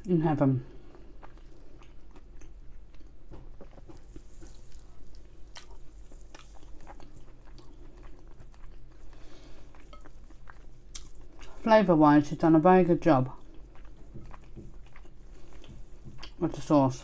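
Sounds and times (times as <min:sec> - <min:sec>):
person chewing food: 0:00.7 - 0:11.6, 0:13.3 - 0:16.4.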